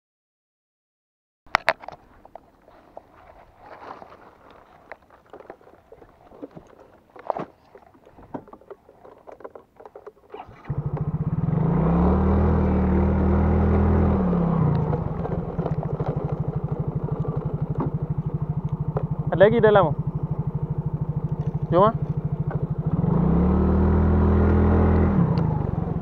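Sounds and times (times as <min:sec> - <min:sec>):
scooter engine: 0:03.2 - 0:26.0.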